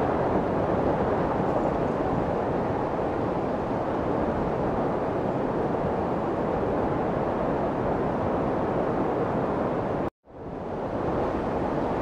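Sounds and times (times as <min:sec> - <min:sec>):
white noise of waves and surf: 0:00.0 - 0:12.0.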